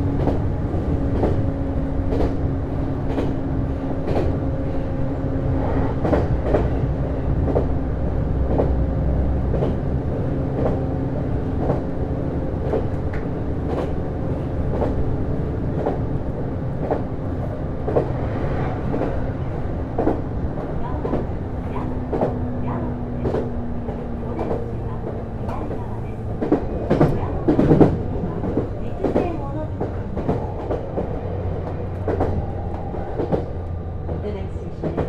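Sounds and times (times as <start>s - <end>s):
railcar rumble and hum: 0.0s - 35.0s.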